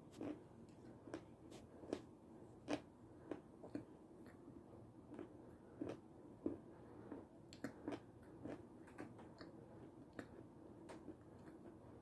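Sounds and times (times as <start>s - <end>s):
chewing soft sweets: 0.0s - 12.0s.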